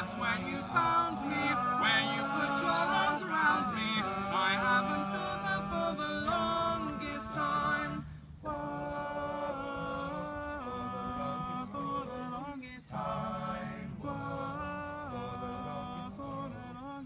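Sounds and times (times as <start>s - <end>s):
male group singing harmony: 0.0s - 17.0s.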